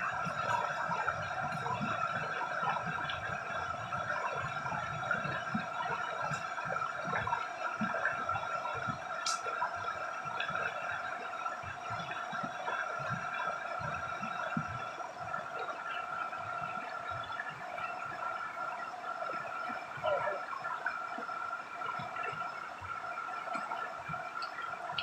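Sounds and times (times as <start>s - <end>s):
river running over stones: 0.0s - 25.0s.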